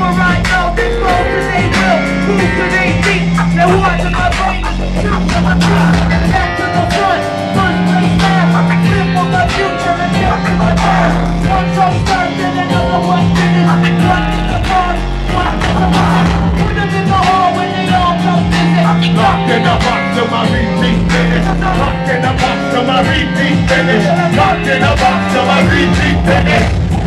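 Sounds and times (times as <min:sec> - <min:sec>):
live rap-rock band playing: 0:00.0 - 0:27.0
vocalist singing into microphone: 0:00.0 - 0:27.0.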